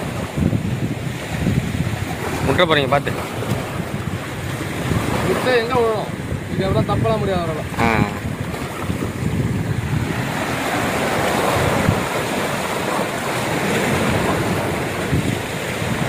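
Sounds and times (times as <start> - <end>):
surf breaking on rocks: 0.0 - 16.0
wind rumbling on microphone: 0.0 - 16.0.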